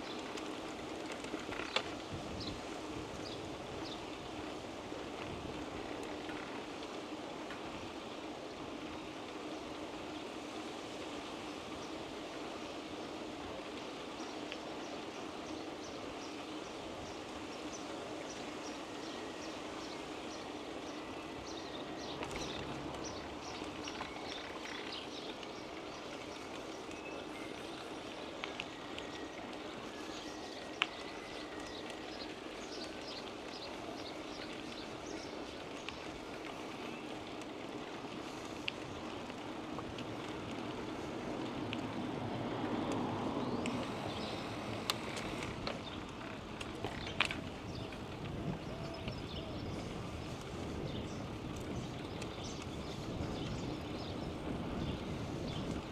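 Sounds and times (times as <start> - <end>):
bicycle rolling and wind noise: 0.0 - 55.9.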